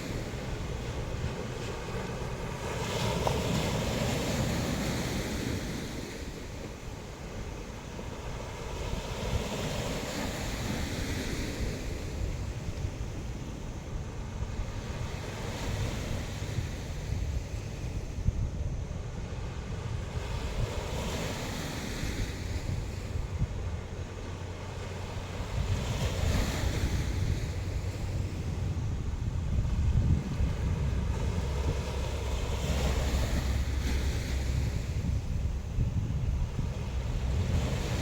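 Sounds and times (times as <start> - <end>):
sea waves breaking: 0.0 - 38.0
wind buffeting microphone: 0.0 - 38.0.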